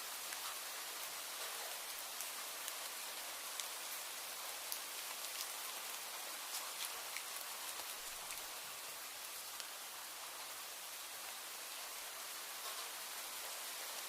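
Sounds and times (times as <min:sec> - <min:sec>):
rain hissing: 0:00.0 - 0:14.0
raindrops ticking on a surface: 0:00.0 - 0:14.0.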